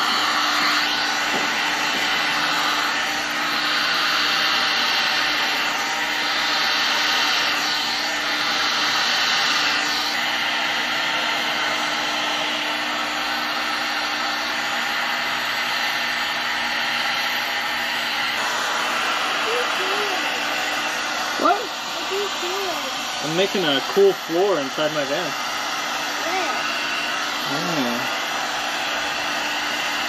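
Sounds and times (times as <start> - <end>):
heat gun blowing air: 0.0 - 30.0.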